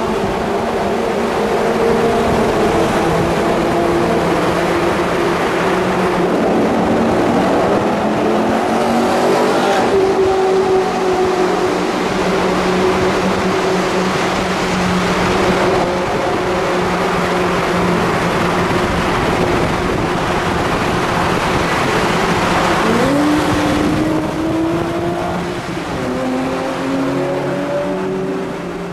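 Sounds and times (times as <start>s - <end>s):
car accelerating: 0.0s - 28.9s
sports car engines roaring: 0.0s - 28.9s.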